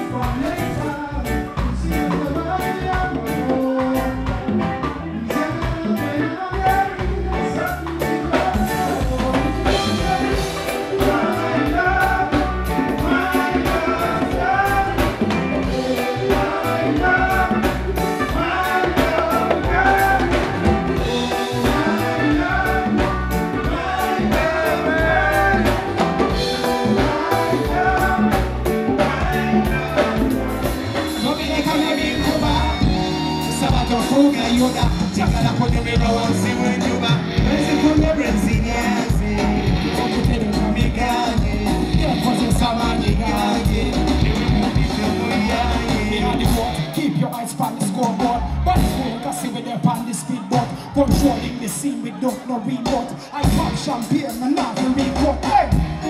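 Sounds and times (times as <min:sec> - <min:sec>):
steady drum beat: 0:00.0 - 0:47.0, 0:48.0 - 0:51.6, 0:52.9 - 0:56.0
person singing: 0:00.0 - 0:56.0.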